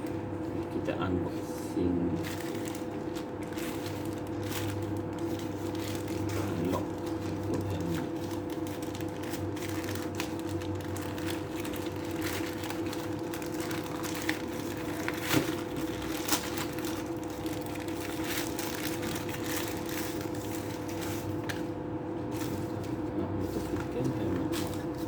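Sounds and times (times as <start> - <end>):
steady background hum: 0.0 - 25.0
packaging crinkling: 2.0 - 25.0.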